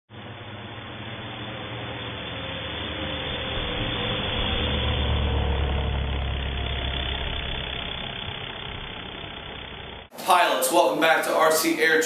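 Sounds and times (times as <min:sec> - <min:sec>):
electric motor and propeller: 0:00.1 - 0:10.1
simulated radial engine rumble: 0:00.1 - 0:10.2.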